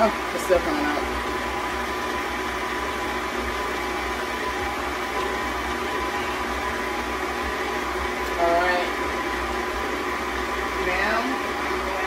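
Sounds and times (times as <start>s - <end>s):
electric stand mixer humming: 0.0s - 12.0s.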